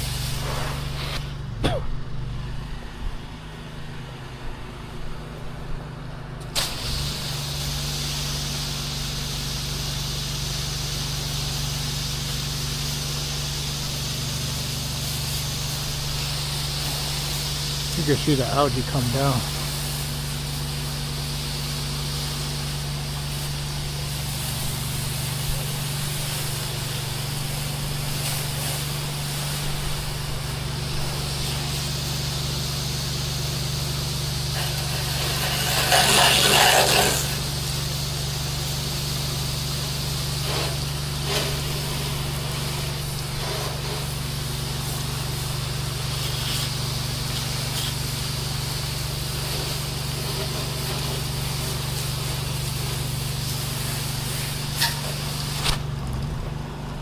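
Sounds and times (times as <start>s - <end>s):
spray hissing: 0.0s - 1.5s, 6.4s - 56.0s
pump hum: 0.0s - 57.0s.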